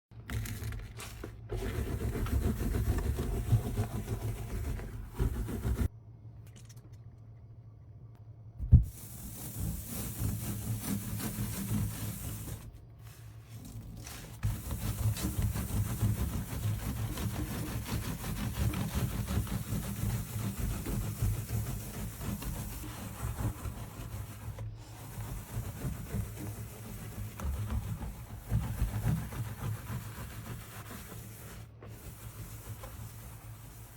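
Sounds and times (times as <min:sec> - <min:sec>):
sponge scrubbing a sink: 0:00.4 - 0:05.9, 0:08.7 - 0:33.9.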